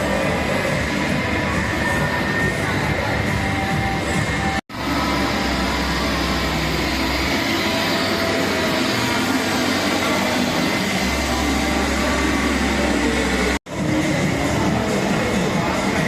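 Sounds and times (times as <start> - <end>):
crowd din at outdoor market: 0.0 - 16.0
low hum: 0.0 - 16.0.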